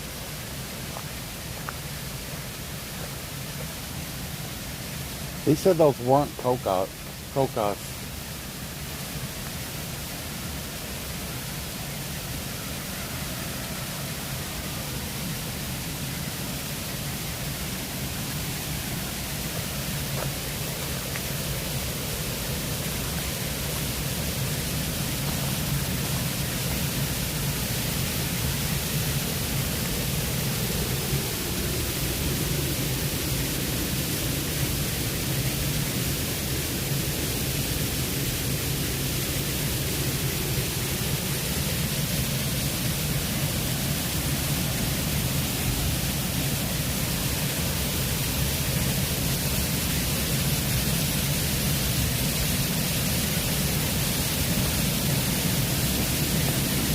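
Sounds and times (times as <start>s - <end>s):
steady rushing noise: 0.0s - 56.9s.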